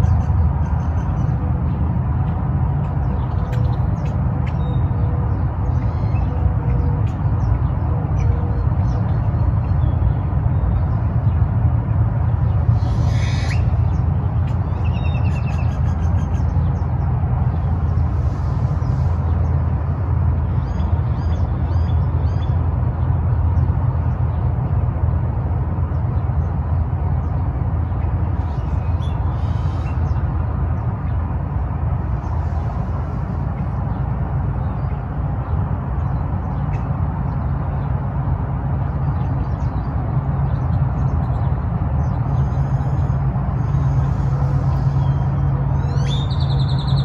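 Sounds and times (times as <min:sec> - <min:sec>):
birds calling and chirping: 0:00.0 - 0:47.0.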